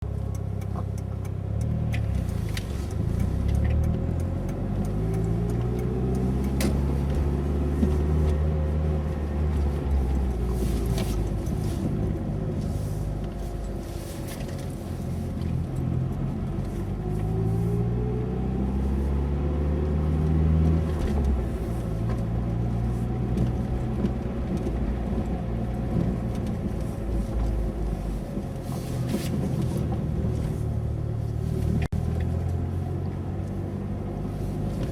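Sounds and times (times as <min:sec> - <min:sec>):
car engine accelerating: 0:00.0 - 0:34.9
road noise: 0:00.0 - 0:34.9.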